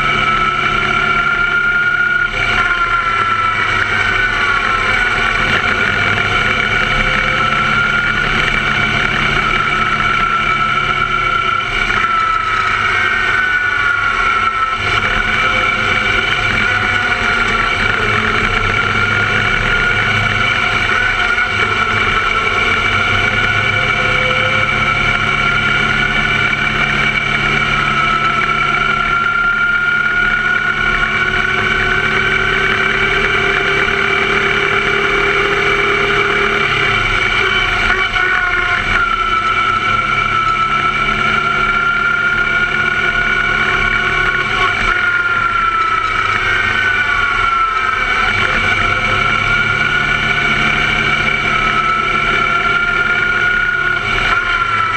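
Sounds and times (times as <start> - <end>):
race car engine under load: 0.0 - 54.9.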